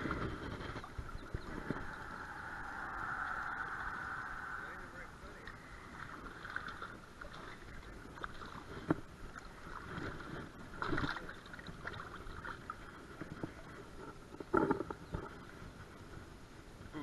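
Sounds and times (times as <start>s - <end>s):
lapping creek water: 0.0s - 17.0s.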